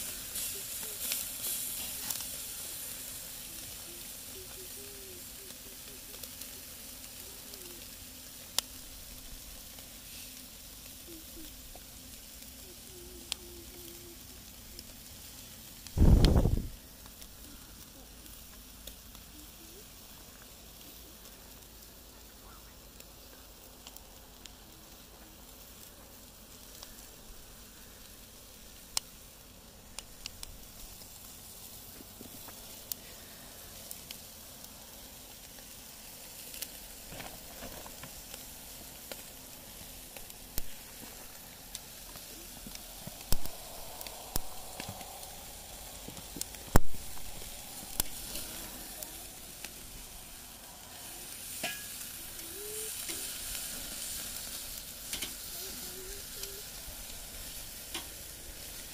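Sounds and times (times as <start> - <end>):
food sizzling on a grill: 0.0 - 58.9.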